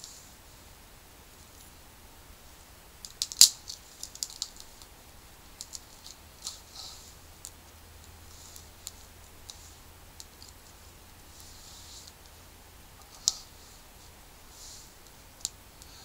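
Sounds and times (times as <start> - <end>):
twig fire crackling: 0.0 - 16.0.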